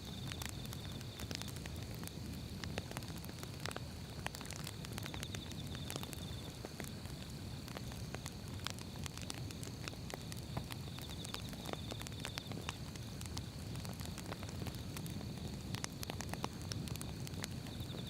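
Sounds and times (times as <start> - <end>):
firewood crackling and popping: 0.0 - 18.0
low rumble of flames: 0.0 - 18.0.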